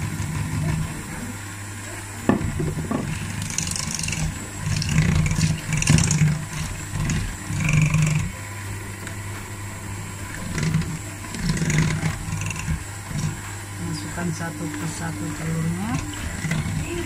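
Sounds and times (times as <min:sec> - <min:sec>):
electric hand mixer whipping batter: 0:00.0 - 0:17.0.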